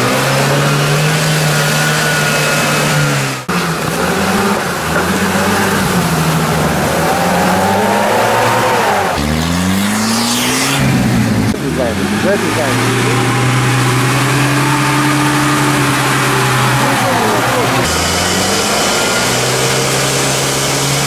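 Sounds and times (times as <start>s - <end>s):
off-road vehicle engines revving: 0.0s - 21.0s.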